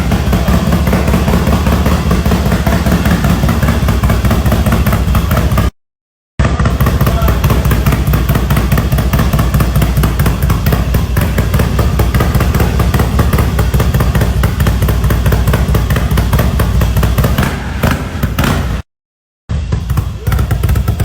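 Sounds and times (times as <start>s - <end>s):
motorcycle engine running: 0.0s - 5.8s, 6.4s - 18.9s, 19.5s - 21.0s.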